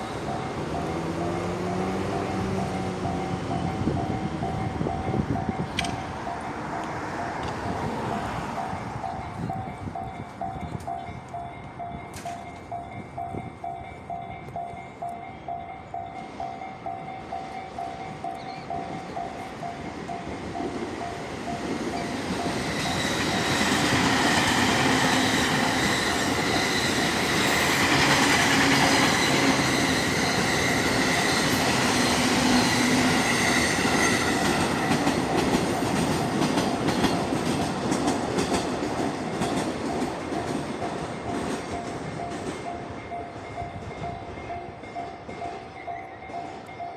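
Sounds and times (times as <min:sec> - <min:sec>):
level-crossing alarm bell ringing: 0:00.0 - 0:07.4, 0:08.0 - 0:46.9
train running on rails: 0:00.0 - 0:46.9.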